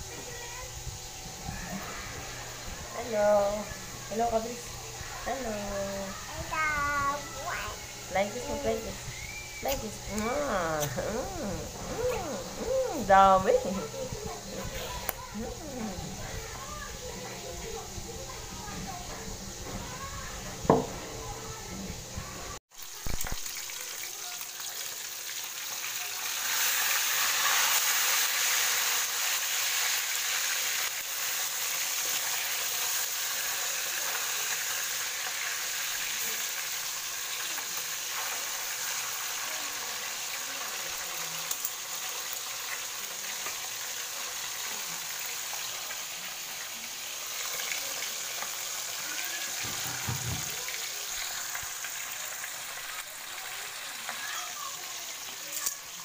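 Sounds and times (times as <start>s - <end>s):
fish sizzling in hot oil: 0.0s - 11.8s, 22.7s - 56.0s.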